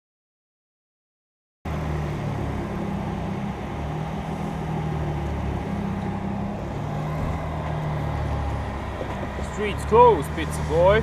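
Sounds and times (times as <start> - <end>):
car engine idling: 1.7 - 11.0.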